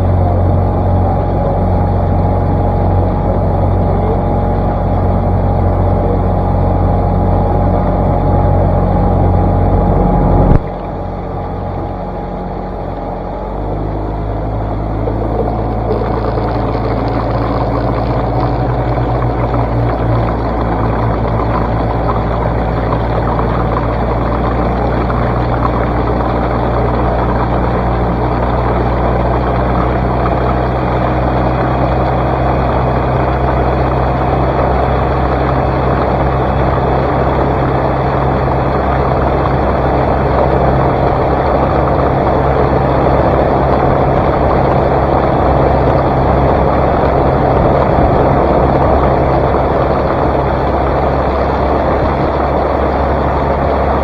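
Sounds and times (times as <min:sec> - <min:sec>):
outboard motor running: 0:00.0 - 0:54.0
water rushing past hull: 0:00.0 - 0:54.0.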